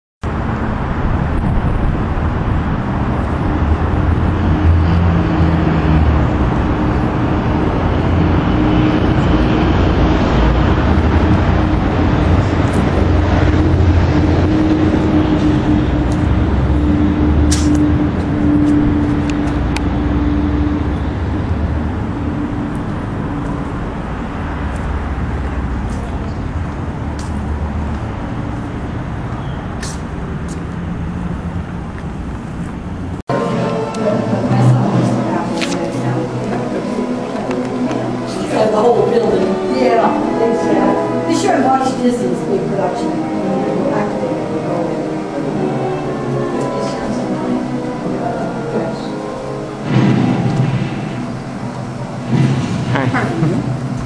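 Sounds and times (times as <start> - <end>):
road traffic rumble: 0.2 - 54.0.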